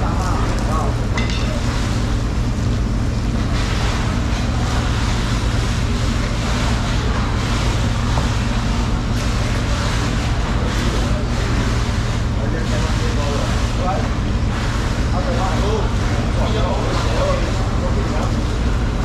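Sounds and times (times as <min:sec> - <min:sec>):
low rumble and hiss: 0:00.0 - 0:19.0.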